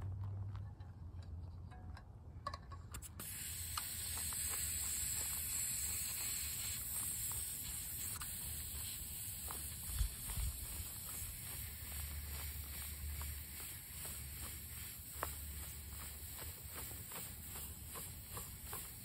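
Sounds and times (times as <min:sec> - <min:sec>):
air hissing from tyre valve: 0:03.0 - 0:19.0.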